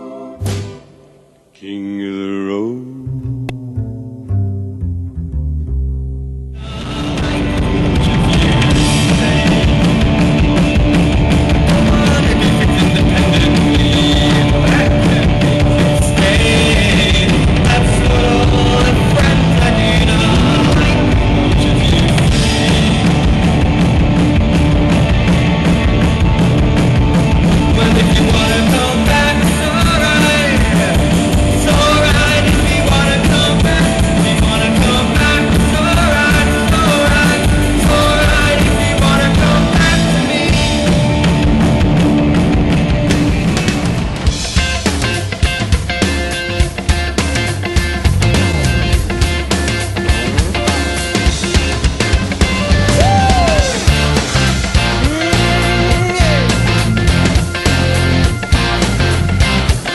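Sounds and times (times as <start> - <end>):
rock music: 0.0 - 59.9.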